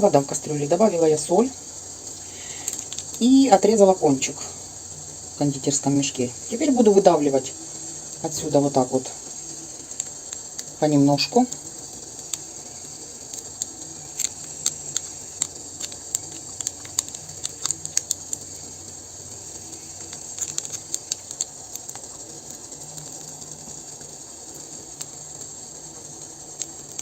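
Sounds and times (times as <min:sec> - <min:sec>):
boiling water hissing and popping: 0:00.0 - 0:27.0.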